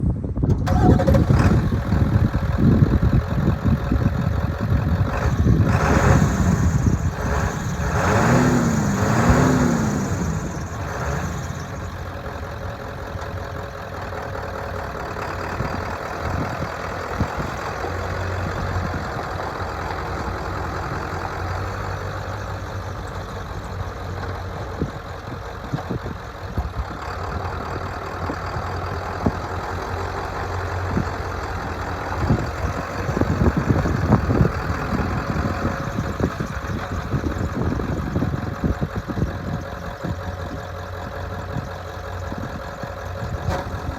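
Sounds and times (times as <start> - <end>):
diesel engine revving and idling: 0.2 - 43.9.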